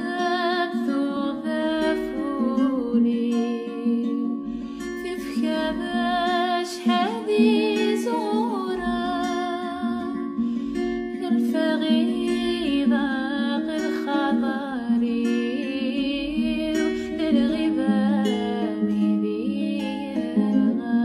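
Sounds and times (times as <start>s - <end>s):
background music with vibrato melody: 0.0s - 21.0s.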